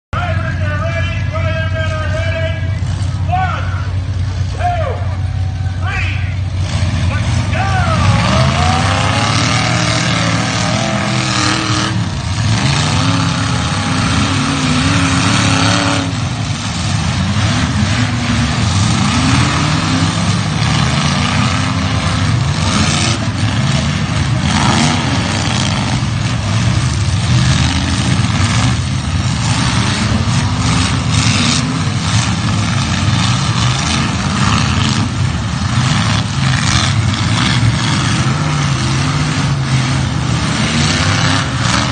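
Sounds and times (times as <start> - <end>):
car engines revving: 0.2 - 41.9.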